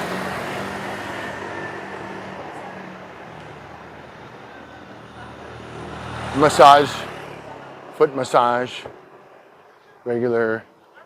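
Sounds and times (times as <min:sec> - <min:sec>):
vehicle passing: 0:00.0 - 0:10.0.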